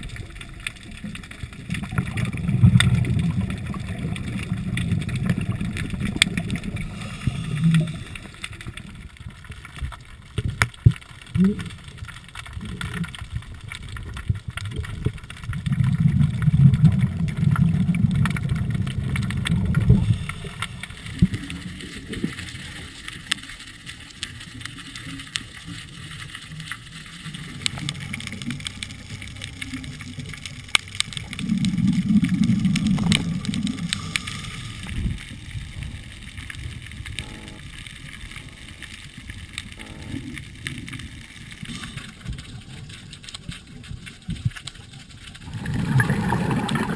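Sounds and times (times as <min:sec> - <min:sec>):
underwater bubbles rumbling: 0:00.0 - 0:46.9.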